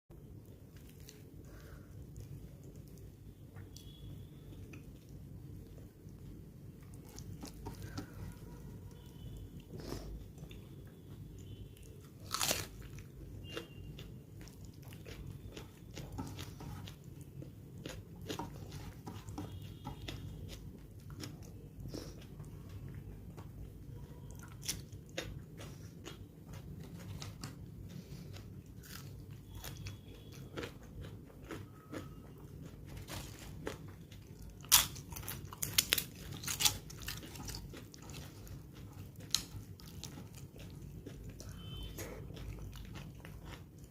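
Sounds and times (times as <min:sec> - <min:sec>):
close-miked chewing and crunching: 0:00.2 - 0:43.9.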